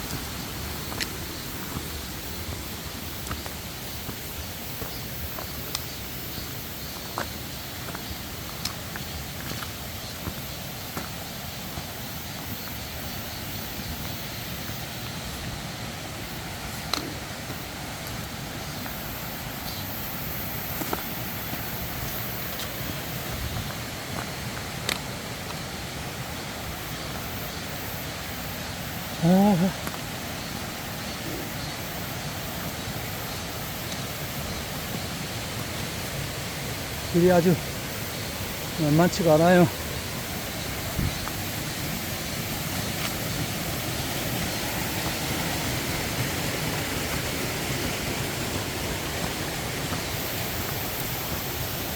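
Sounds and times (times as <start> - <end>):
mountain stream rushing: 0.0 - 51.9.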